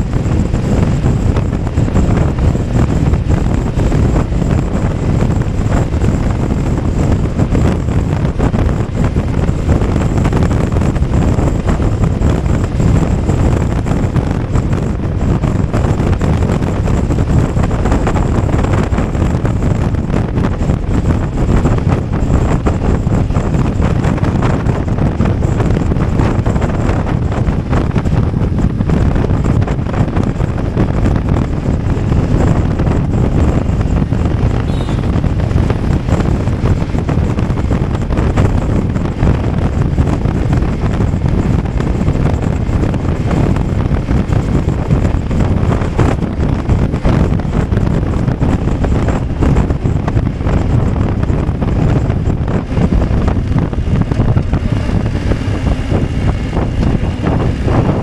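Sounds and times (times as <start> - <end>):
motorcycle engine: 0.0 - 58.0
road noise: 0.0 - 58.0
wind rush on microphone: 0.0 - 58.0.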